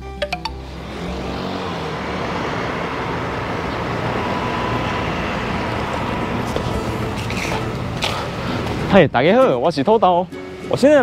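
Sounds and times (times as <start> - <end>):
street traffic rush: 0.0 - 11.0.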